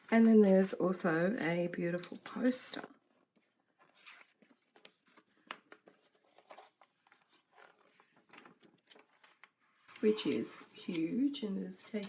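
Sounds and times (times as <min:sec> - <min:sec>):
paper crinkling: 0:02.0 - 0:12.0.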